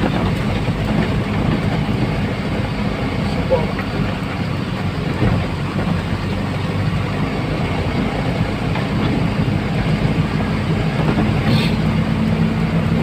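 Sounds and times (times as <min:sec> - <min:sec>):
road rattle and rumble: 0:00.0 - 0:13.0
truck engine running: 0:00.0 - 0:13.0.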